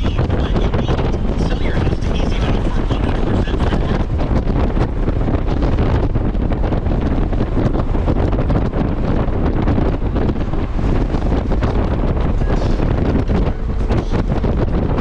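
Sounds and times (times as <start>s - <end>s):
motorcycle engine and tyre noise: 0.0s - 15.0s
wind buffeting microphone: 0.0s - 15.0s.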